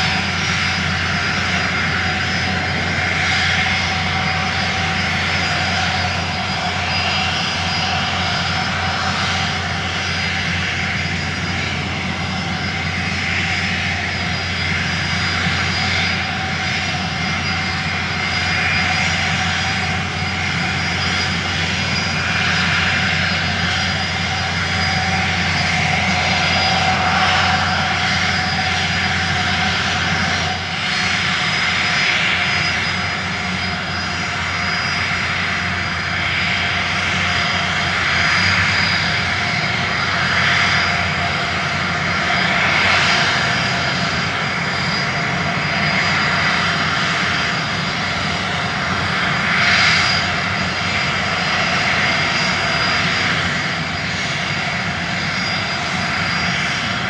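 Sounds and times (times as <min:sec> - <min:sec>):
wind rush: 0:00.0 - 0:57.0.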